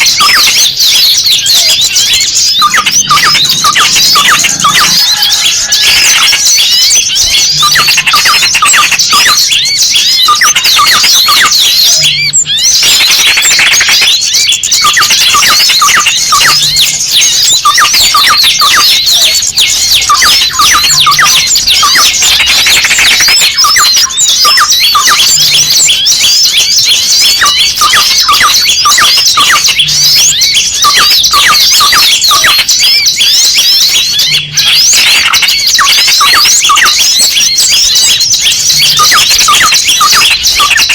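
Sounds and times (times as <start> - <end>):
small birds chirping and squeaking: 0.0 - 40.9.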